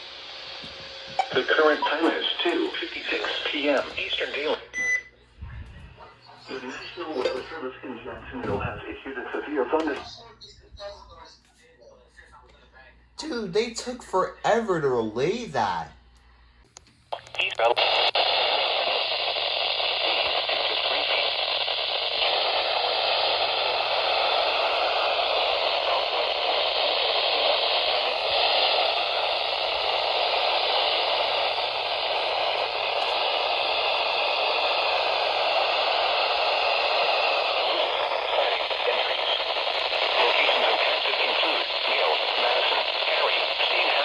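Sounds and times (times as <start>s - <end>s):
radio static hiss: 0.0s - 44.0s.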